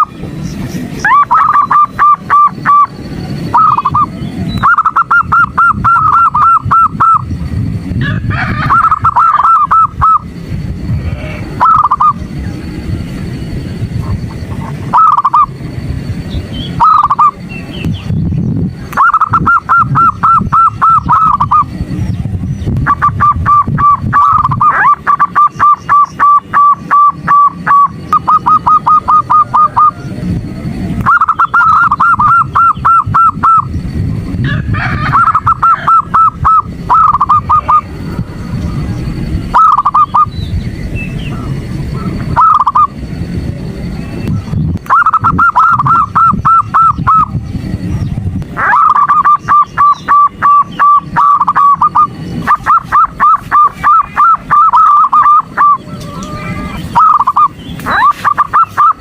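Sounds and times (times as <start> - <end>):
dove staccato calling: 0.0 - 43.0, 44.2 - 59.0
steady low rumble: 0.0 - 59.0.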